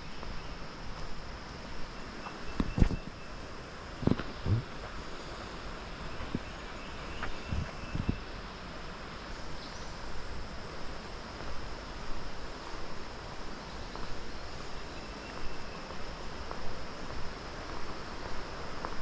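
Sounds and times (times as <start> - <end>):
high insect drone: 0.0 - 19.0
steady rushing hiss: 0.0 - 19.0.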